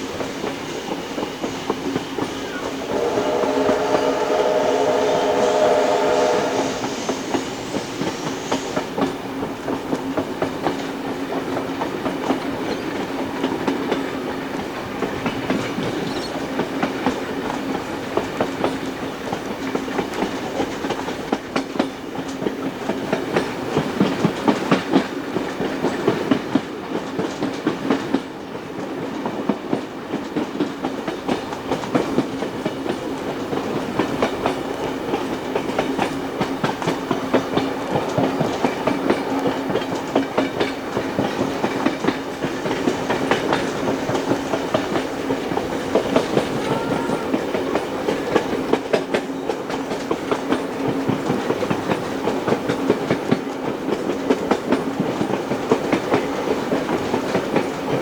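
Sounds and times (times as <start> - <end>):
steady train drone: 0.0 - 58.0
train wheels clicking over rail joints: 0.0 - 58.0.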